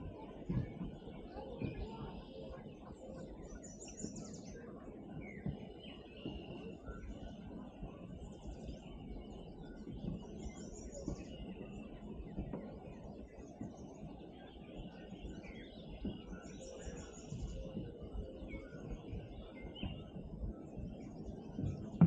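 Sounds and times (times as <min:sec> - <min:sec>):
songbirds singing and chirping: 0:00.0 - 0:22.0.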